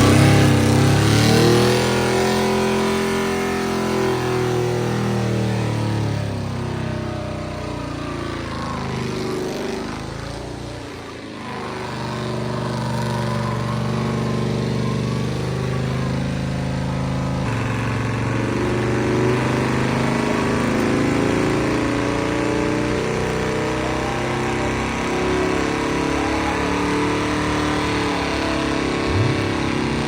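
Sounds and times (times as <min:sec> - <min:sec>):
engine revving high: 0:00.0 - 0:30.0.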